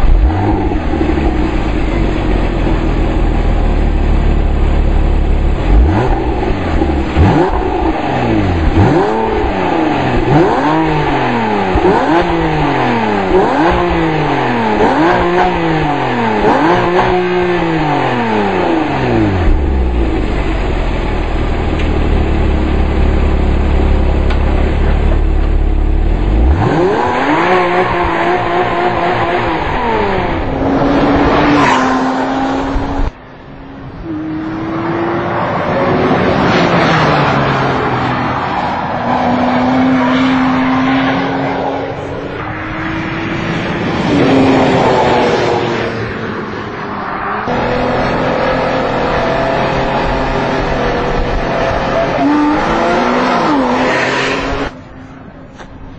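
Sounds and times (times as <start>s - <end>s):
car engine revving and idling: 0.0s - 55.0s
car accelerating and shifting: 0.0s - 55.6s.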